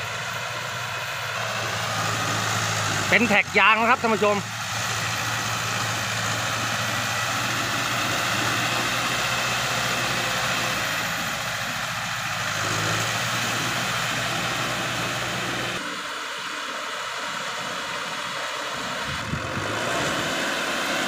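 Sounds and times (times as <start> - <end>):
rotary tiller working through mud: 0.0 - 16.4, 17.8 - 21.0
tractor diesel engine under load: 0.0 - 21.0.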